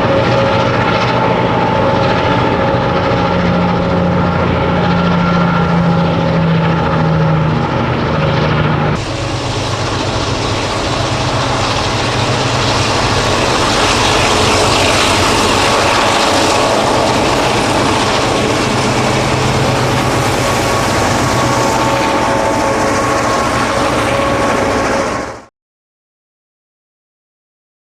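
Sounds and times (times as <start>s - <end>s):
diesel locomotive engine running: 0.0s - 25.5s.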